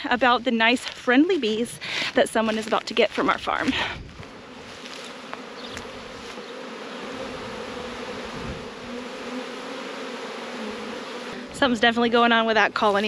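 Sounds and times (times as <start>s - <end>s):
bees buzzing: 0.2s - 13.0s.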